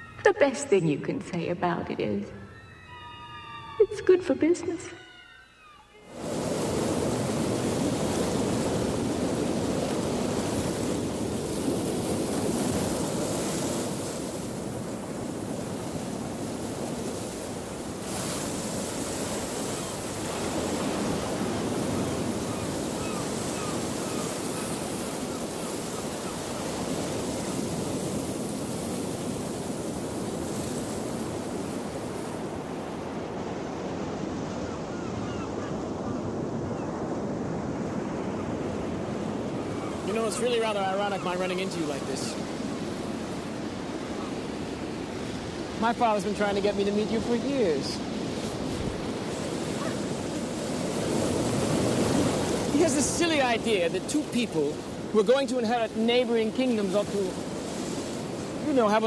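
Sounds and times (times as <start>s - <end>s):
waves washing onto shore: 6.1s - 59.0s.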